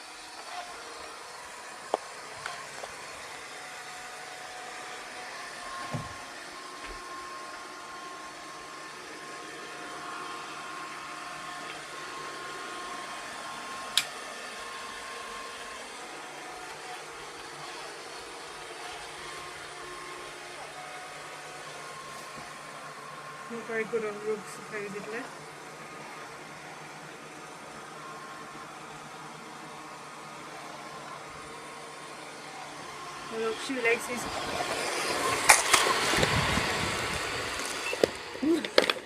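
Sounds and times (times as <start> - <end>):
robot vacuum cleaner humming: 0.0 - 39.0.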